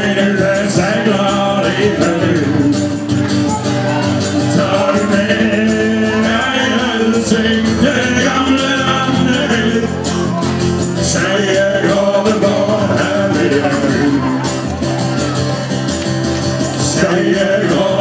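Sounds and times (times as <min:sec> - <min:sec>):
person singing: 0:00.0 - 0:15.6, 0:16.6 - 0:18.0
live band playing: 0:00.0 - 0:18.0.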